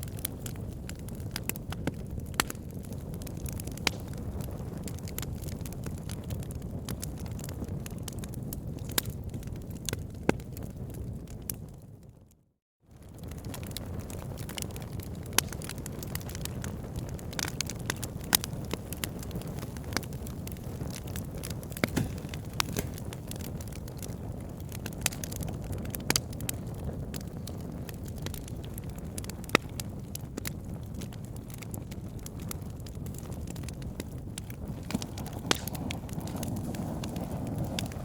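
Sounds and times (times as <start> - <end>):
burning logs crackling: 0.0 - 12.0, 12.9 - 38.0
low rumble of flames: 0.0 - 38.0.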